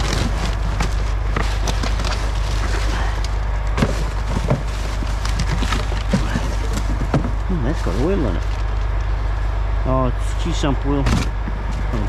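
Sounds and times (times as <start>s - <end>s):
junk knocking and clicking: 0.0s - 9.1s, 11.0s - 12.0s
steady low rumble: 0.0s - 12.0s.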